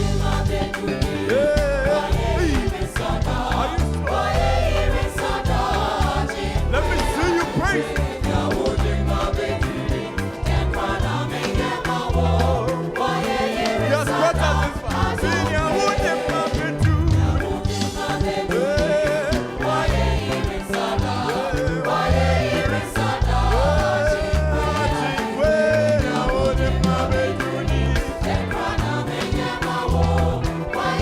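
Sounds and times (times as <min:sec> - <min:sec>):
bass line: 0:00.0 - 0:31.0
drums: 0:00.0 - 0:31.0
gospel choir singing: 0:00.0 - 0:31.0.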